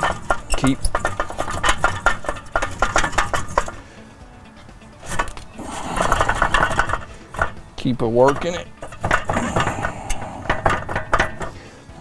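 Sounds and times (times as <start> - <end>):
metallic clattering of wheel hub: 0.0 - 4.0, 4.9 - 12.0.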